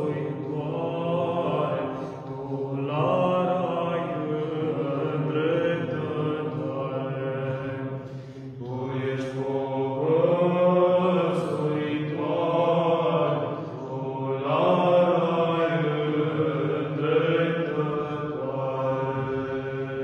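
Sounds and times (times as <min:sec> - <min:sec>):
male choir chanting unaccompanied: 0:00.0 - 0:20.0.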